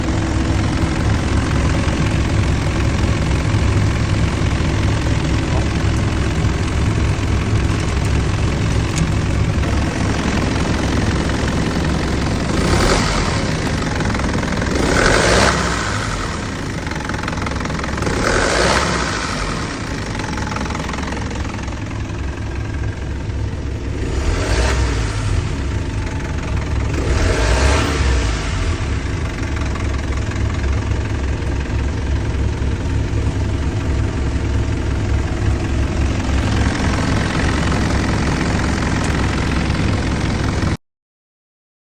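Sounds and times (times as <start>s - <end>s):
diesel bus engine idling: 0.0s - 40.8s.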